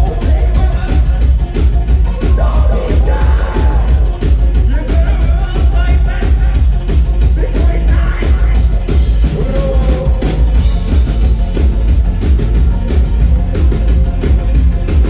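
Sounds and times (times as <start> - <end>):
bass guitar: 0.0 - 15.0
drum kit beat: 0.0 - 15.0
keyboard: 0.0 - 15.0.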